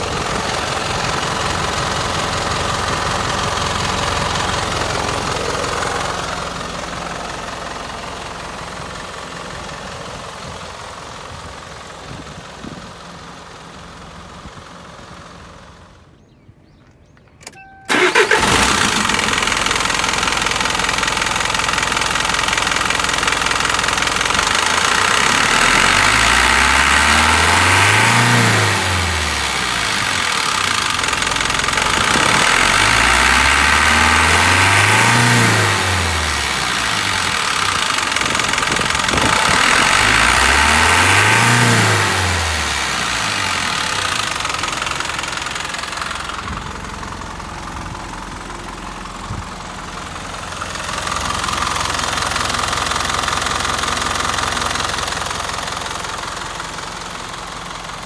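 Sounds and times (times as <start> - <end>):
diesel truck engine idling and revving: 0.0 - 16.8, 17.8 - 58.0.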